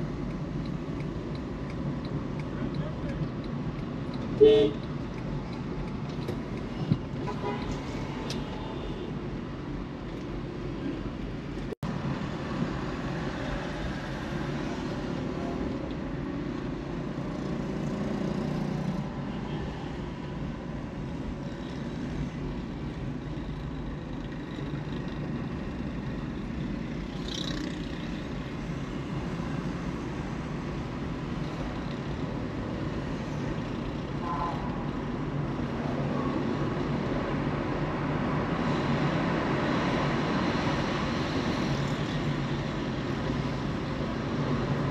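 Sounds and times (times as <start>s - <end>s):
car road noise: 0.0s - 44.9s
surrounding traffic: 0.0s - 44.9s.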